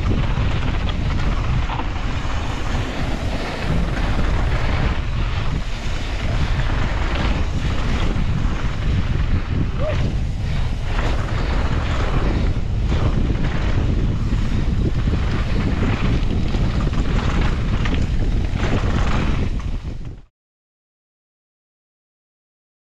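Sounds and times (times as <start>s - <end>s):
bike knocking and rattling: 0.0s - 20.3s
bike tyre rumble: 0.0s - 20.3s
wind buffeting microphone: 0.0s - 20.3s.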